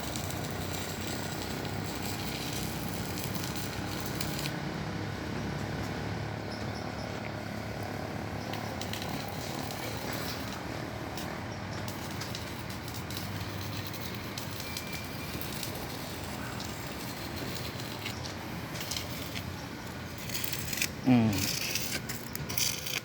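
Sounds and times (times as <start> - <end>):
arc welding crackling sizzle: 0.0 - 4.6, 7.7 - 23.0.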